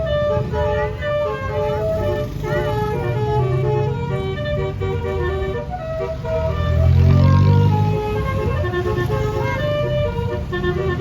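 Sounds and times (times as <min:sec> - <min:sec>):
bus engine rumble: 0:00.0 - 0:11.0
bus horn playing melody: 0:00.0 - 0:11.0.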